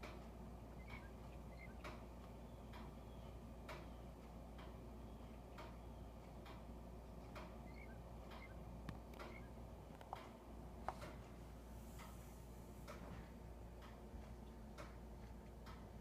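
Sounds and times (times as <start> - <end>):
faint even ticking: 0.0 - 16.0
low steady hum: 0.0 - 16.0.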